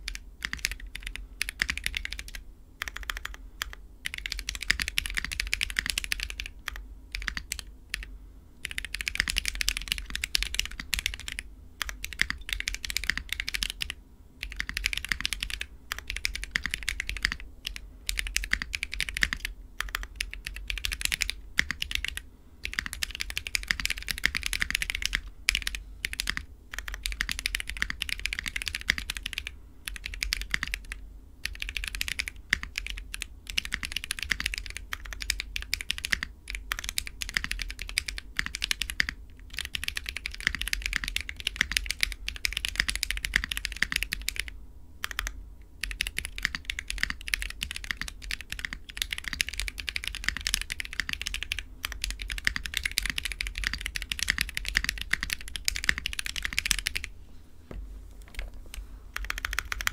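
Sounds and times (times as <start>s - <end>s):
fast mechanical keyboard typing: 0.0s - 57.1s, 59.2s - 59.9s.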